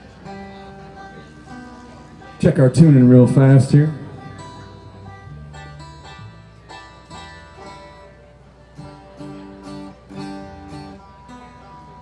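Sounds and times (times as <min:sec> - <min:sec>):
plucked strings being tuned: 0:00.0 - 0:12.0.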